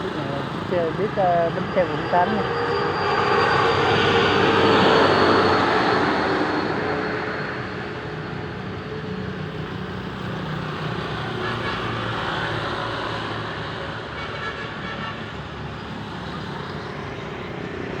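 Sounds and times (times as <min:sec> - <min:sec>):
bus passing: 0:00.0 - 0:18.0
road traffic engine hum: 0:00.0 - 0:18.0.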